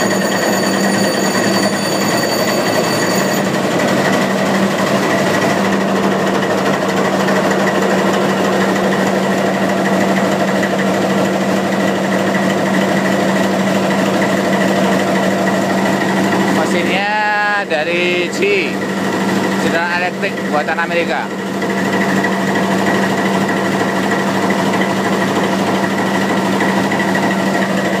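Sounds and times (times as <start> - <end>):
locomotive diesel engine running: 0.0 - 28.0.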